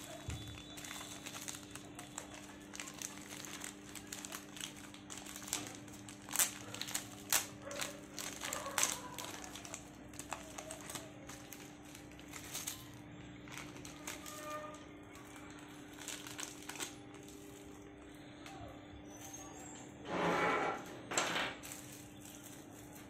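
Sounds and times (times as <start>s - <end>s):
plastic bag crinkling: 0.0s - 19.8s, 20.8s - 23.0s.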